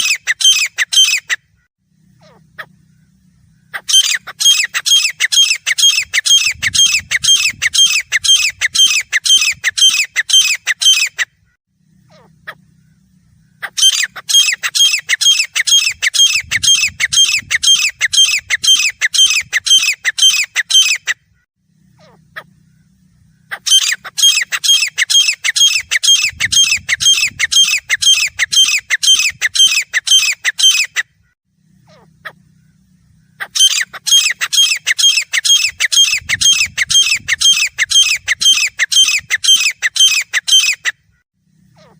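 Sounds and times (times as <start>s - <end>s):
bird calling harsh notes: 0.0s - 41.9s.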